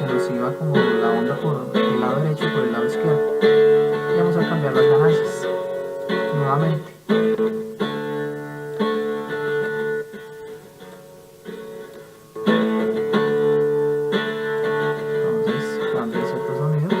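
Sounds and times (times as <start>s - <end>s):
guitar chords with effects: 0.0s - 17.0s.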